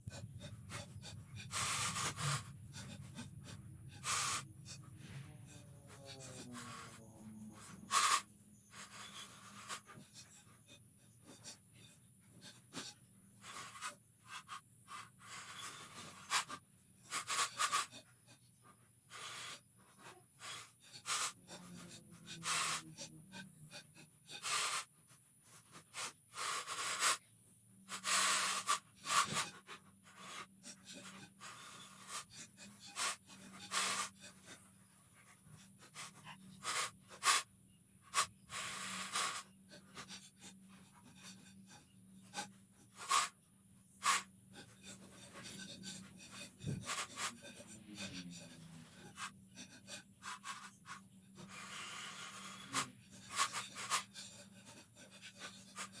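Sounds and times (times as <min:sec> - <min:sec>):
faint low hum: 0:00.0 - 0:56.0
person breathing hard: 0:00.0 - 0:56.0.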